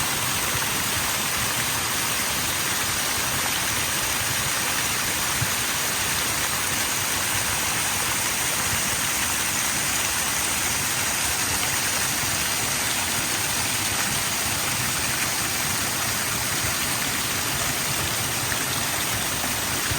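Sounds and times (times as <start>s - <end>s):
waterfall rushing over rock: 0.0s - 19.9s.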